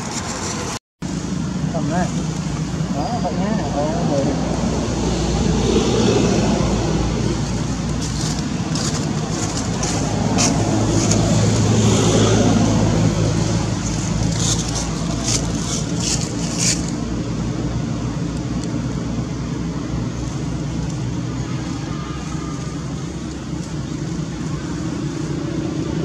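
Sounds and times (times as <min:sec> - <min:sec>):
motor traffic rumble: 0:00.0 - 0:26.0.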